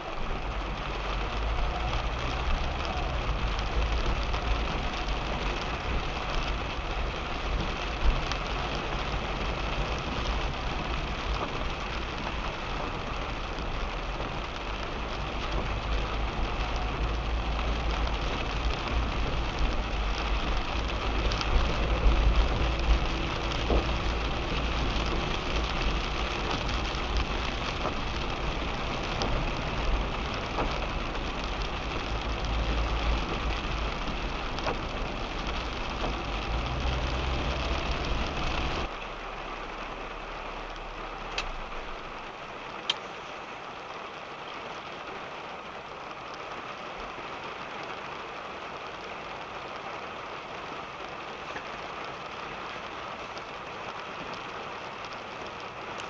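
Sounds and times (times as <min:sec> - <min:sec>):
low rumble of moving car: 0:00.0 - 0:56.0
rain on a car roof: 0:00.0 - 0:56.0.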